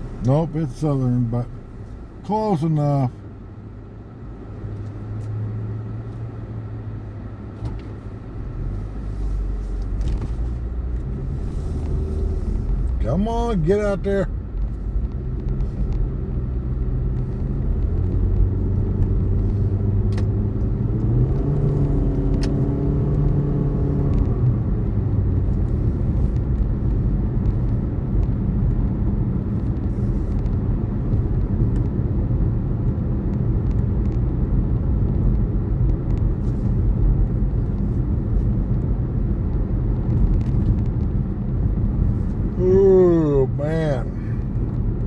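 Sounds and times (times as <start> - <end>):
car cabin road rumble: 0.0 - 45.0.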